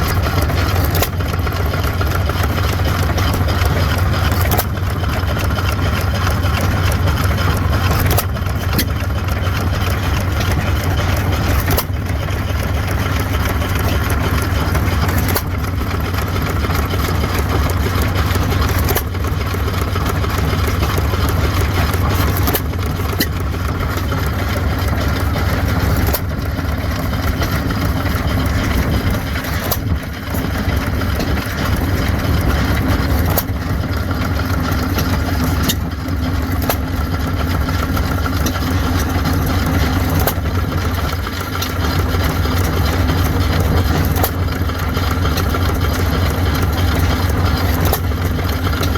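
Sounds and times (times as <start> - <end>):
gasoline engine chugging: 0.0 - 48.9.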